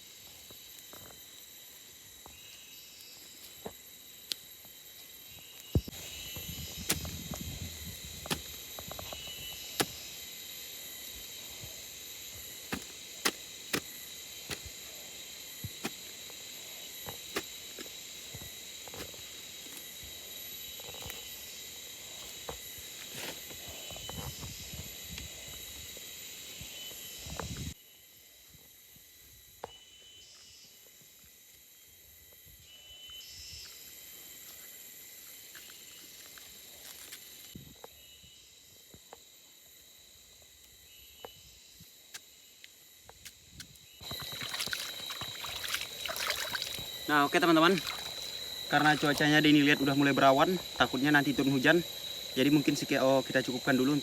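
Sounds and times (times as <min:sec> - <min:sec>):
forest insects chorus: 0:00.0 - 0:54.0.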